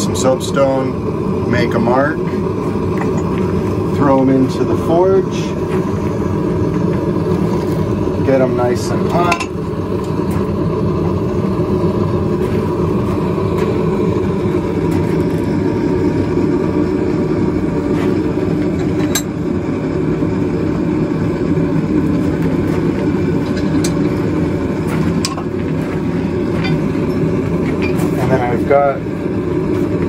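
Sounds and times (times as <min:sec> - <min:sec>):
gas forge burner roaring: 0:00.0 - 0:30.0.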